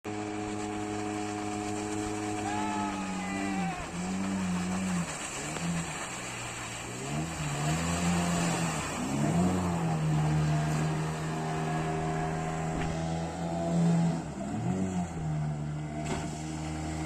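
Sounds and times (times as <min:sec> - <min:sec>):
motorboat engine running: 0:00.0 - 0:17.0
wash of noise: 0:00.1 - 0:17.0.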